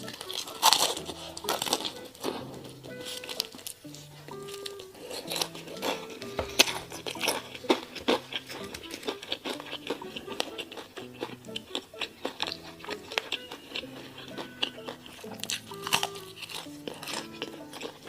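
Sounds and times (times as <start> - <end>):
background music with held notes: 0.0 - 18.0
crunchy eating sounds: 0.0 - 18.0.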